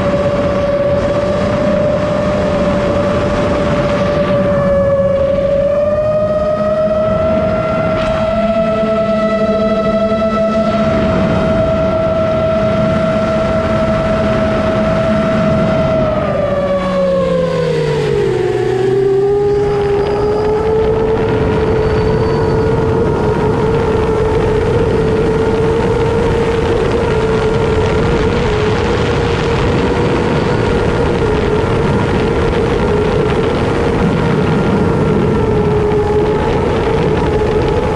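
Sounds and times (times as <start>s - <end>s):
drone motors whining: 0.0s - 37.9s
wind rushing: 0.0s - 37.9s.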